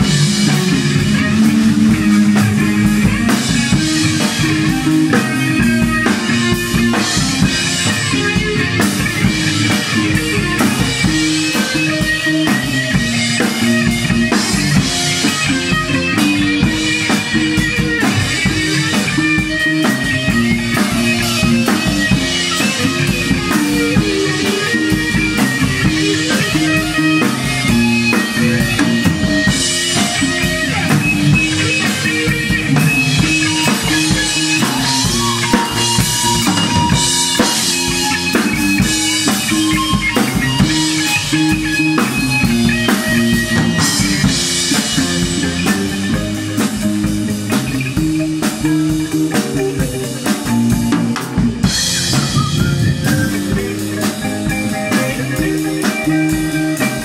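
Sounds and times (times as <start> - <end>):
drum kit with cymbals: 0.0 - 57.0
guitar: 0.0 - 57.0
repeating bass line: 0.0 - 57.0.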